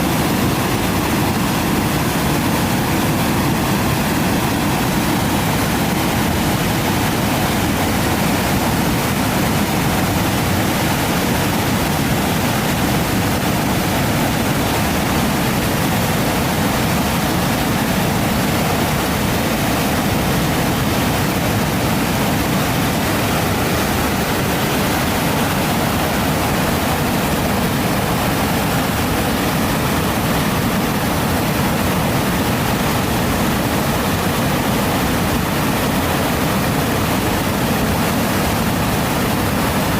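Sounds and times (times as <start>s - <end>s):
water rushing over a weir: 0.0s - 39.9s.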